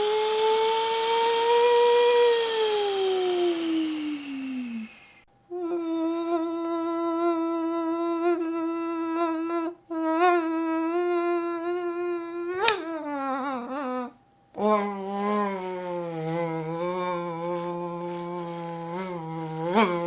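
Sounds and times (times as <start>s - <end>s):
man imitating mosquito whine: 0.0s - 20.0s
man imitating vacuum cleaner: 0.0s - 20.0s.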